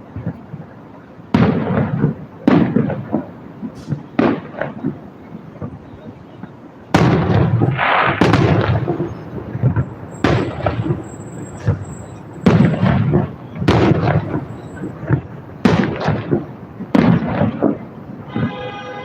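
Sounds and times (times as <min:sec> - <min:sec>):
fireworks crackling: 0:00.0 - 0:06.2, 0:06.9 - 0:19.0
small fireworks pops: 0:00.1 - 0:18.9
fireworks booms and bangs: 0:01.3 - 0:06.2, 0:06.9 - 0:19.0.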